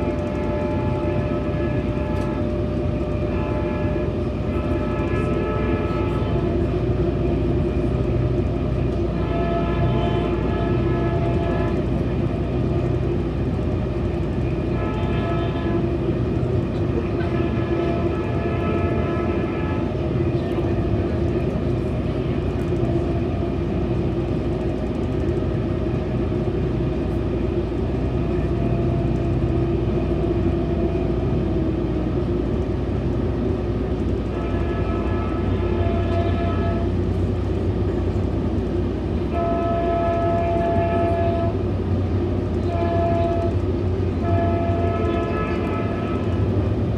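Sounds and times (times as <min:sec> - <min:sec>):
train horn blasts: 0:00.0 - 0:31.8, 0:34.0 - 0:46.9
train rumbling on track: 0:00.0 - 0:46.9.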